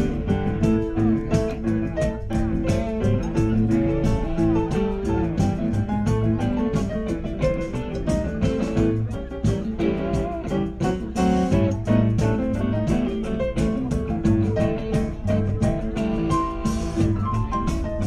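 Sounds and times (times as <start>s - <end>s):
bass: 0.0s - 18.0s
drums: 0.0s - 18.0s
electric guitar: 0.0s - 18.0s.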